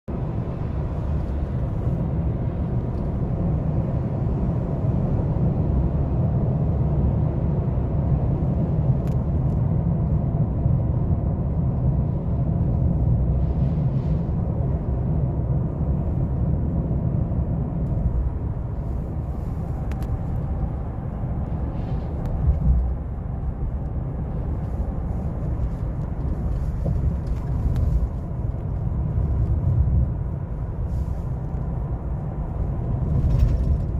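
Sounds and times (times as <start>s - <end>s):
pickup engine rumble: 0.1s - 33.9s.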